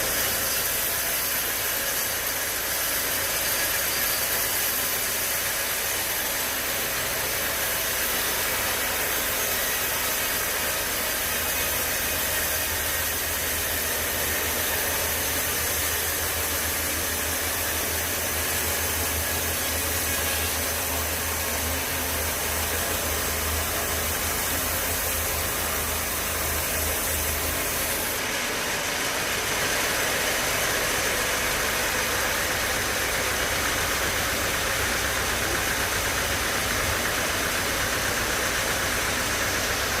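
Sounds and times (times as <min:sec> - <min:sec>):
sawmill machinery running: 0:00.0 - 0:40.0.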